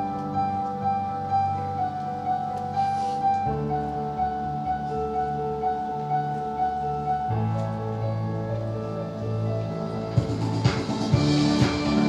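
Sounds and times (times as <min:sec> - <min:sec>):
background music with sustained chords: 0:00.0 - 0:12.0.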